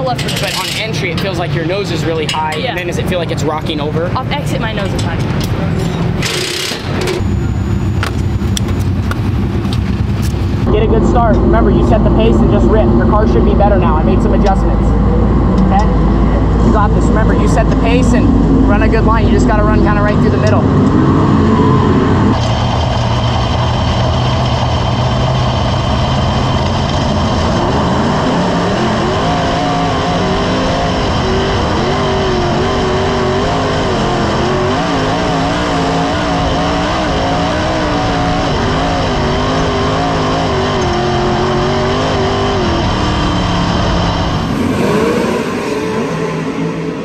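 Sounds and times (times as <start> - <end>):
race car engine: 0.0 - 47.0.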